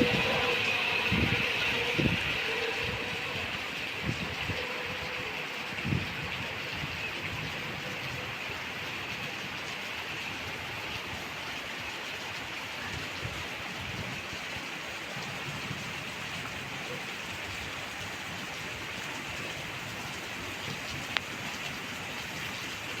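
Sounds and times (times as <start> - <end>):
light rain drizzling: 0.0 - 23.0.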